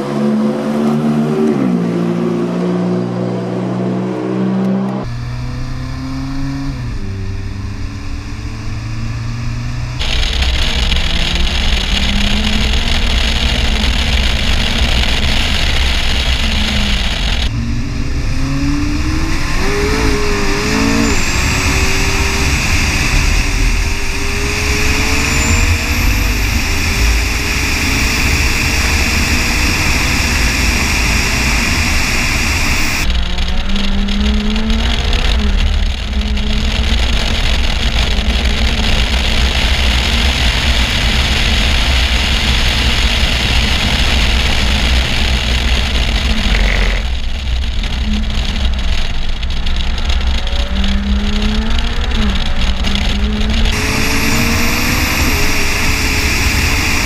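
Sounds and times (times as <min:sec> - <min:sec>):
sports car engine revving: 0:00.0 - 0:57.0
tyre and road noise: 0:00.0 - 0:57.0.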